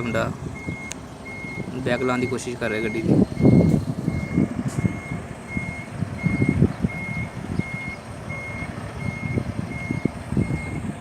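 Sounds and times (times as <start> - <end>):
truck reversing alarm beeping: 0.0 - 11.0.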